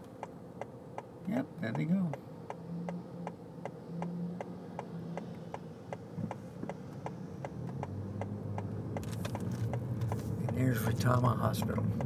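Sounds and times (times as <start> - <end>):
turn signal clicking: 1.7 - 12.0.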